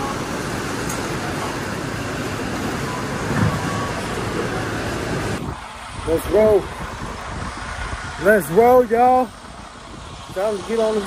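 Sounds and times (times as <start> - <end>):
roller conveyors and machinery running: 0.0 - 11.0.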